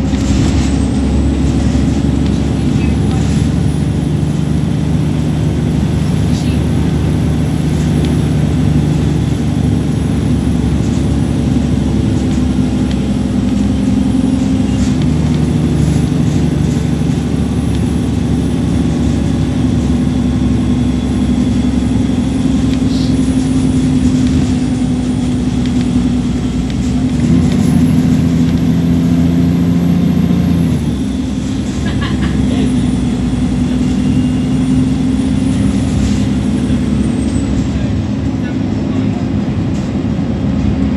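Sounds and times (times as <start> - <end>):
bus diesel engine under load: 0.0 - 40.9
high engine whine: 0.0 - 40.9.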